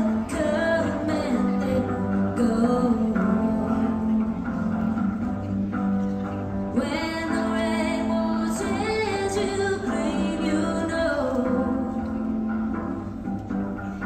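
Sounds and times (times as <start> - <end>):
low instrumental accompaniment: 0.0 - 14.0.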